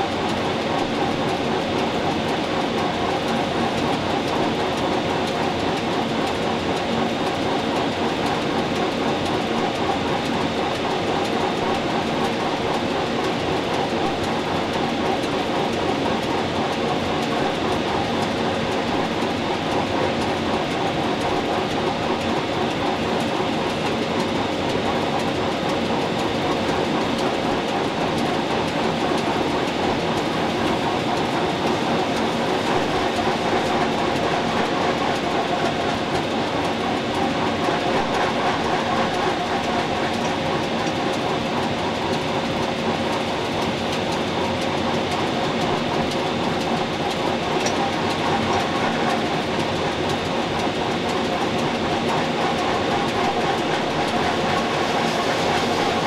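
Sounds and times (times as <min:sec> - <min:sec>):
wheels running on rails: 0:00.0 - 0:56.0.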